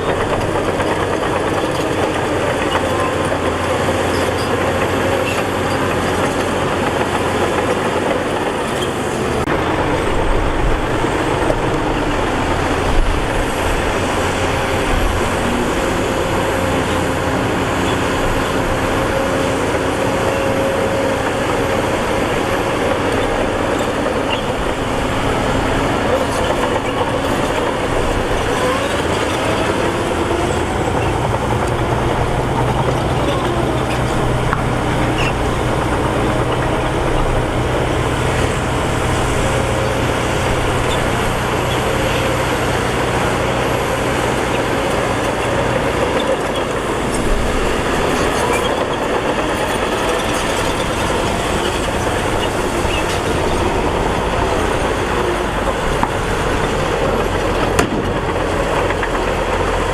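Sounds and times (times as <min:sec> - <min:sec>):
diesel earthmoving machinery running: 0:00.0 - 0:59.9.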